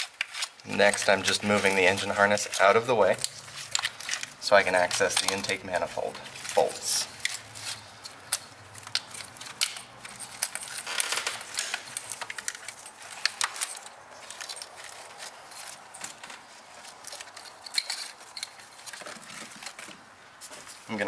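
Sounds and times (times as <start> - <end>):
wiring harness clicking and rustling: 0.0 - 21.0.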